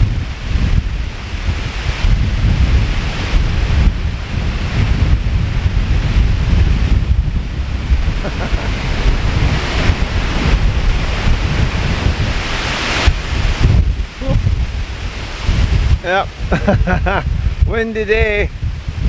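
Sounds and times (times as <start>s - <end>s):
waterfall roaring: 0.0s - 17.3s
wind buffeting microphone: 0.0s - 19.0s.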